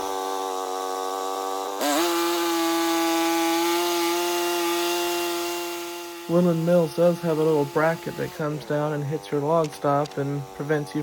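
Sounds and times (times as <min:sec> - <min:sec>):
band sawmill cutting log: 0:00.0 - 0:11.0.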